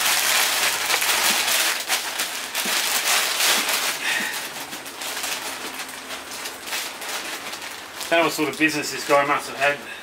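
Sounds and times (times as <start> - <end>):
plastic bags crinkling: 0.0 - 9.9.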